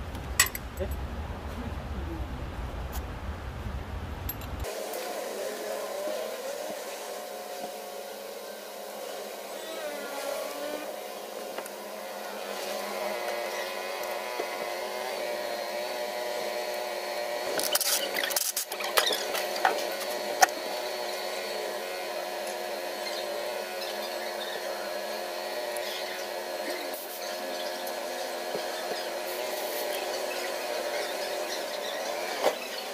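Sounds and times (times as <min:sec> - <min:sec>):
steady mechanical hum: 0:00.0 - 0:32.9.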